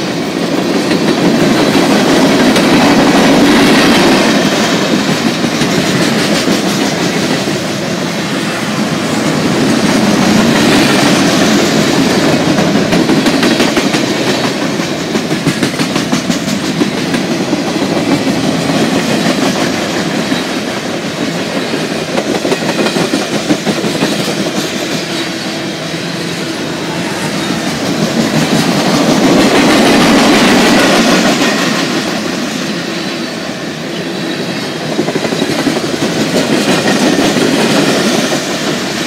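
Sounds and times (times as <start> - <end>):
train wheels rumbling over rails: 0.0 - 39.0.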